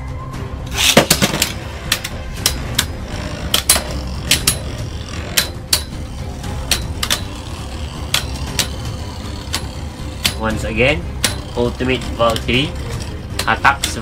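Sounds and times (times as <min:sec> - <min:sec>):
spinning tops clacking together: 0:00.7 - 0:14.0
spinning tops whirring: 0:00.7 - 0:14.0.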